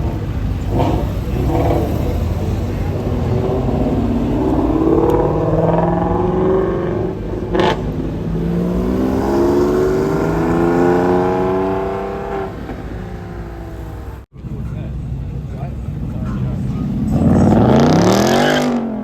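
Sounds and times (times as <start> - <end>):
car accelerating hard: 0.0 - 14.6, 15.3 - 19.0.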